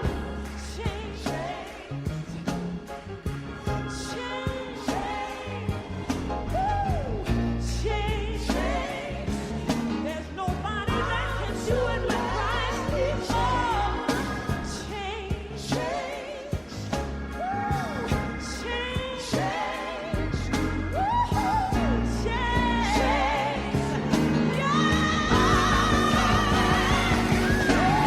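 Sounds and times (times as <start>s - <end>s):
band with beat and bass: 0.0s - 28.0s
gospel singing with vibrato: 0.0s - 28.0s.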